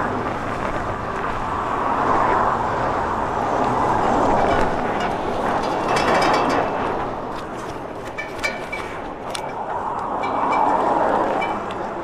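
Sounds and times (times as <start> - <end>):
wind and tyre noise: 0.0 - 12.0.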